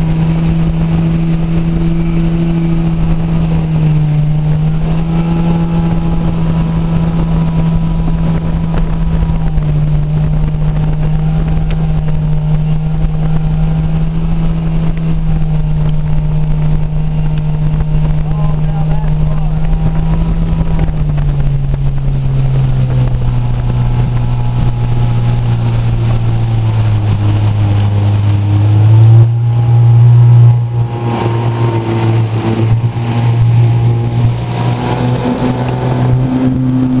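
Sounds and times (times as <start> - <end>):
motorboat engine droning: 0.0 - 37.0.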